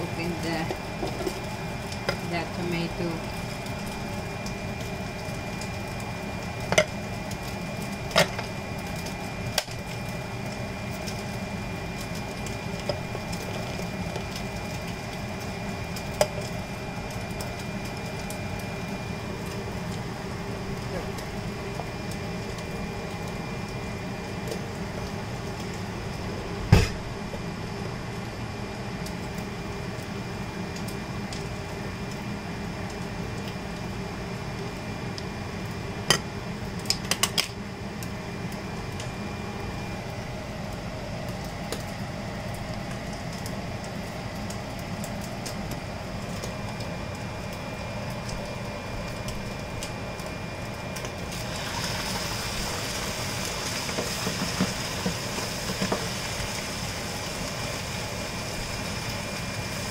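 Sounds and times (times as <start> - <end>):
kitchen hum: 0.0 - 59.9.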